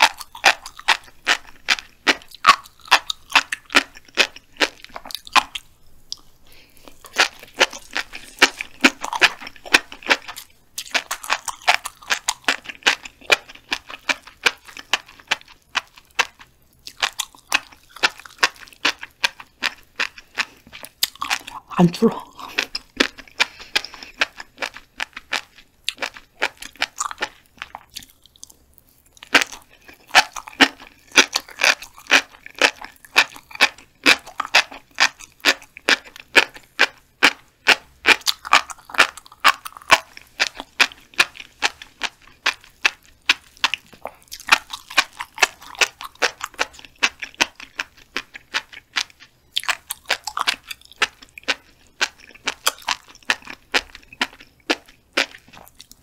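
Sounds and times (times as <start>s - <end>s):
chewing crunchy fish roe: 0.0s - 56.0s.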